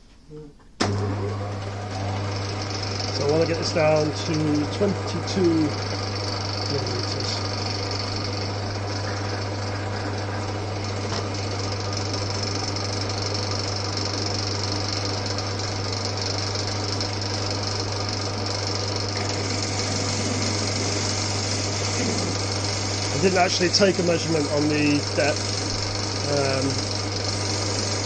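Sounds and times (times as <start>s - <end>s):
metal lathe motor humming: 0.8s - 28.0s
lathe tool cutting metal: 1.0s - 28.0s.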